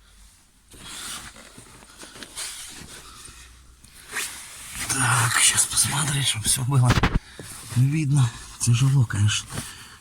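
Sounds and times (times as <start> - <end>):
rustling handling noise: 0.0 - 10.0.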